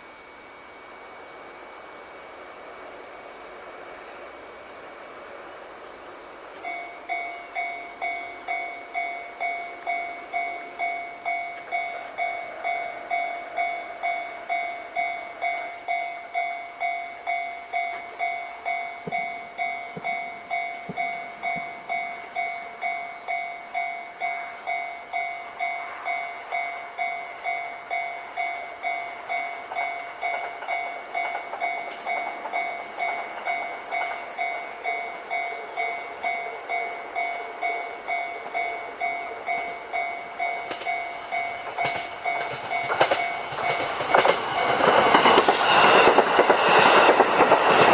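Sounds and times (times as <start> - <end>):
level-crossing warning bell: 0.0 - 5.2, 5.9 - 47.9
train rumble: 0.0 - 47.9.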